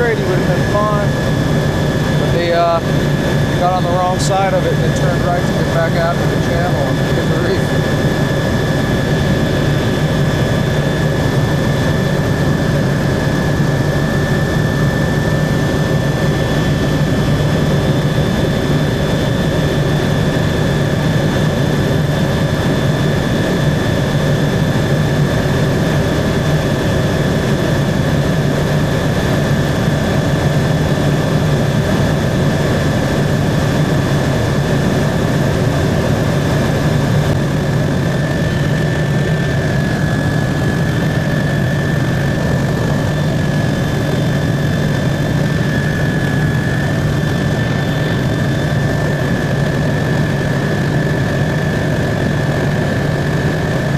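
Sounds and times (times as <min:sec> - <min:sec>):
helicopter cabin whine and drone: 0:00.0 - 0:53.9.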